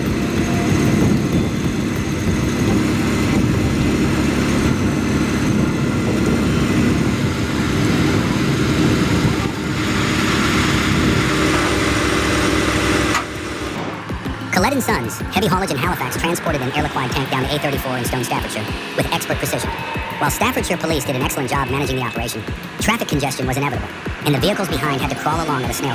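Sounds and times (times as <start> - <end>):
heavy vehicle engine droning: 0.0 - 25.9.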